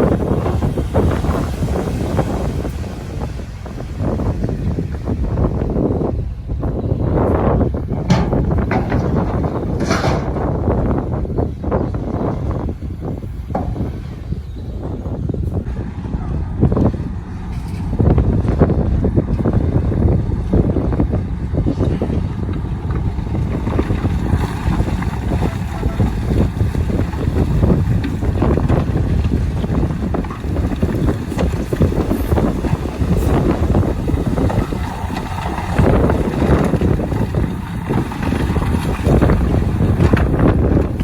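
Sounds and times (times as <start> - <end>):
heavy diesel machinery rumbling: 0.0 - 41.0
wind buffeting microphone: 0.0 - 41.0.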